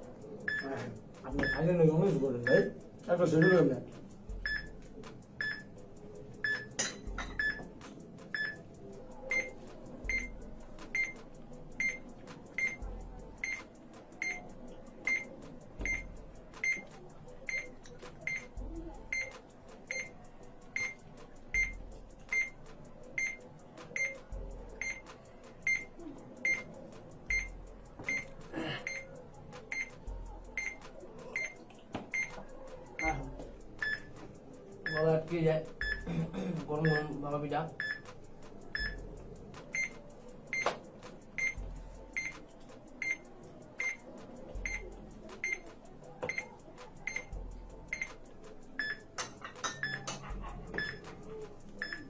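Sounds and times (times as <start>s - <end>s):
countdown timer beeping: 0.1s - 36.1s, 36.8s - 40.7s, 41.4s - 52.0s.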